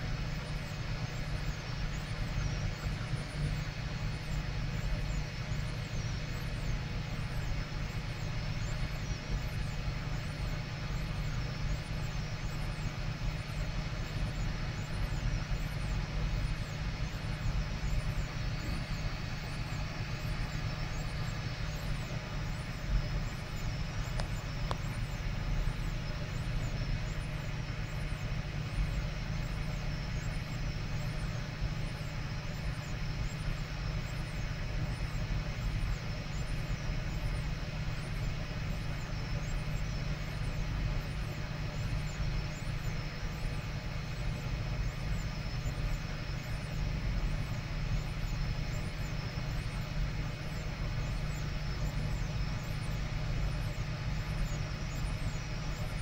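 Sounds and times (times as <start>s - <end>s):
printer motors humming and whining: 0.0s - 56.0s.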